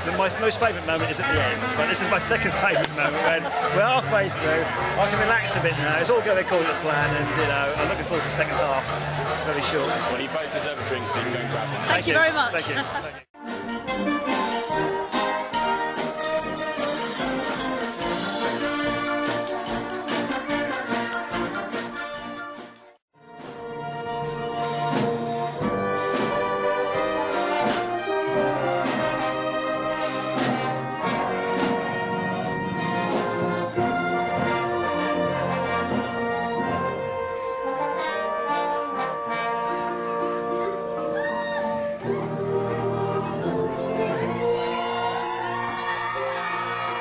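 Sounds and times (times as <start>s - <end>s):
brass band playing: 0.0s - 47.0s.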